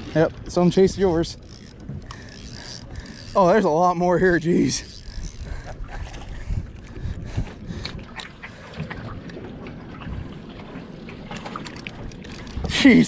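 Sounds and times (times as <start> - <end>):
wind buffeting microphone: 0.0 - 12.8
water against boat hull: 0.0 - 13.0.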